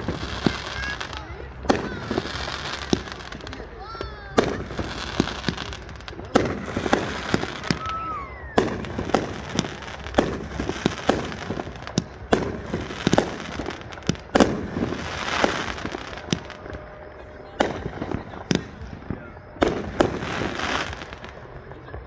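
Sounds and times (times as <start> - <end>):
fireworks bangs: 0.0 - 22.0
hissing crackle of fireworks: 0.0 - 22.0.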